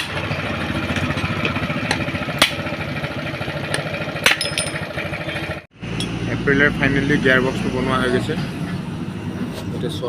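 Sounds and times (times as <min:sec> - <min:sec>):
small engine idling: 0:00.0 - 0:08.4.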